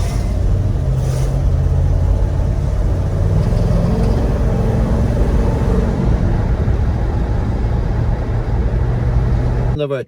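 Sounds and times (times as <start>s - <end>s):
car engine running: 0.0s - 9.8s
road noise: 0.0s - 10.0s.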